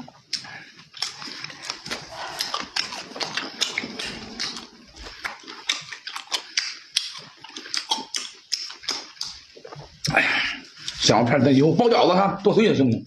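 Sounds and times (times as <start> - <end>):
person chewing food: 0.0 - 11.1.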